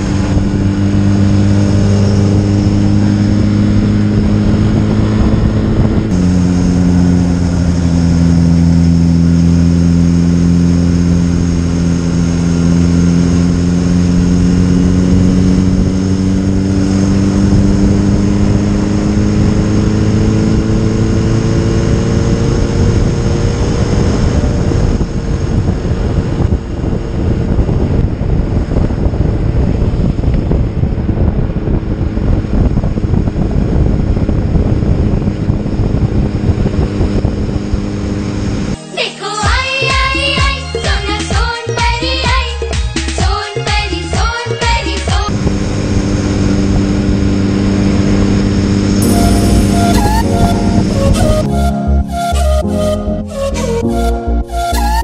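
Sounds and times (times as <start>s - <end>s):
motorcycle engine running: 0.0s - 38.8s, 45.1s - 55.0s
wind buffeting microphone: 0.0s - 38.8s, 45.3s - 51.5s.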